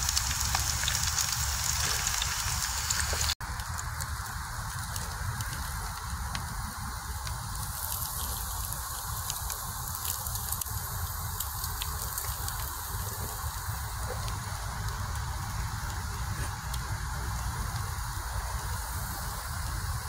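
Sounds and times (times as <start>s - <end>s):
potatoes sizzling in a pan: 0.0s - 20.0s.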